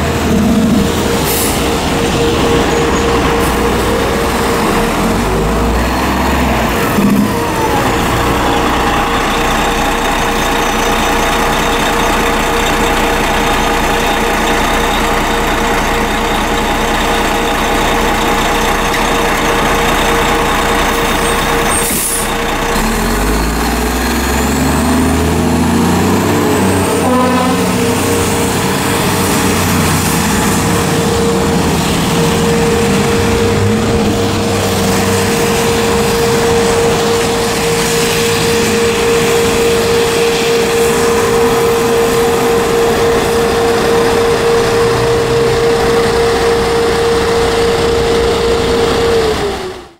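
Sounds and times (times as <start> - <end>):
diesel engine running and revving: 0.0 - 49.9
steady high tone: 0.0 - 49.9.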